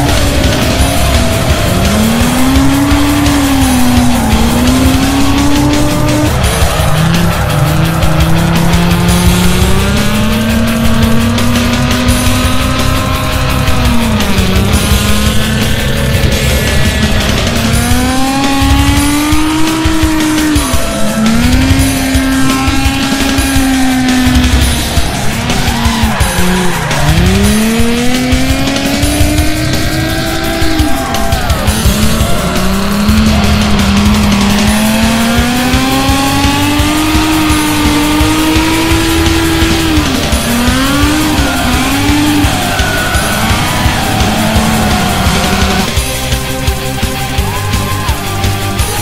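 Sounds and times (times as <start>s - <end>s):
car engine revving: 0.0s - 49.0s
music with steady beat: 0.0s - 49.0s
tyres squealing: 0.0s - 49.0s.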